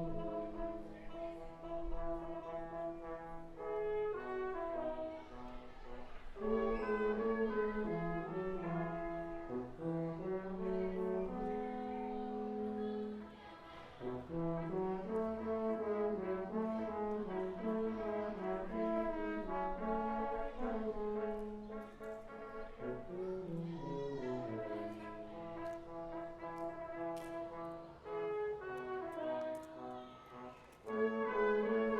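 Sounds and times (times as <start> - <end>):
brass quintet playing: 0.0 - 13.3, 14.0 - 31.9.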